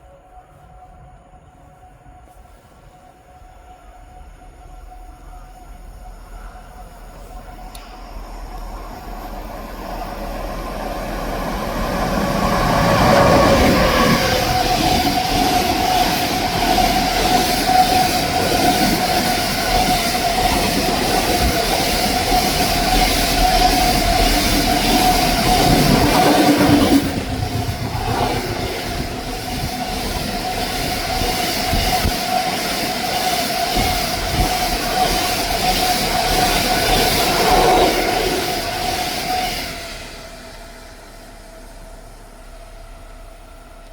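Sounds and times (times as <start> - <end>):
train running past on rails: 0.0 - 43.9
train whine: 0.0 - 43.9.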